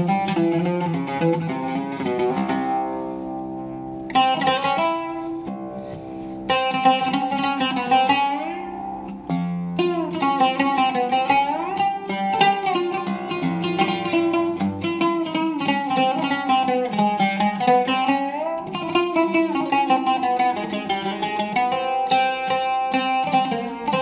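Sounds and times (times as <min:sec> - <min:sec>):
solo oud plucked notes: 0:00.0 - 0:24.0.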